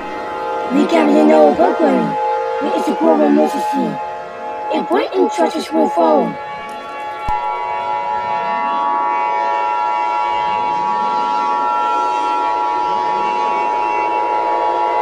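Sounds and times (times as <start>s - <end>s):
low wailing tone: 0.0s - 15.0s.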